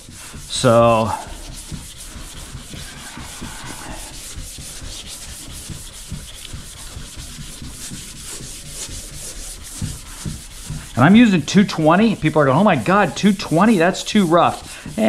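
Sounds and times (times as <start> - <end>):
sandpaper scrubbing back and forth: 0.0 - 15.0.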